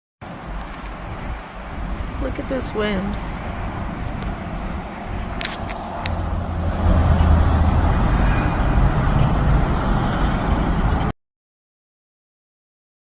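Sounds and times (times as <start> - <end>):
wind buffeting microphone: 0.3 - 11.1.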